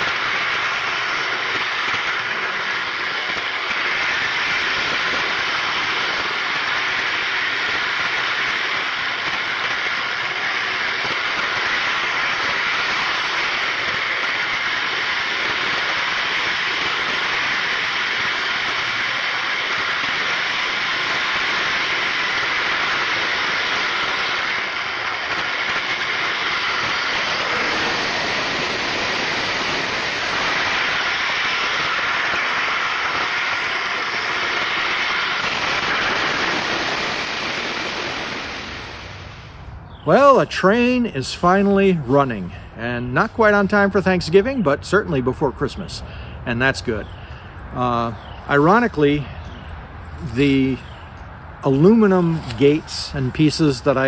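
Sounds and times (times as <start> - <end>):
model train wheels rolling on track: 0.0 - 39.3, 40.1 - 47.2, 51.6 - 54.0.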